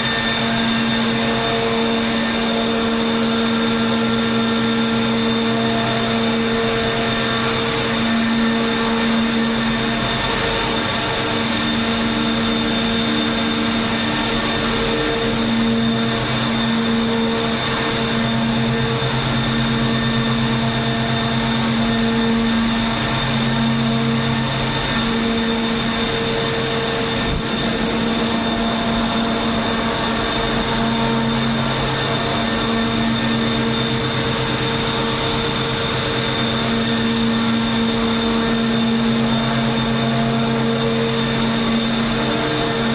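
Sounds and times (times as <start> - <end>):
chiller machine drone: 0.0 - 42.9.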